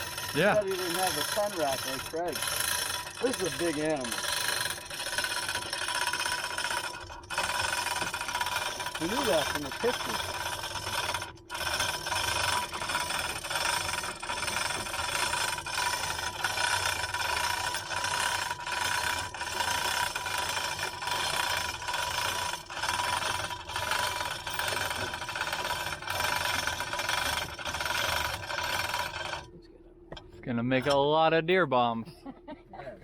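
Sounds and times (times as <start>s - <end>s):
engine running with a rattle: 0.0s - 31.2s.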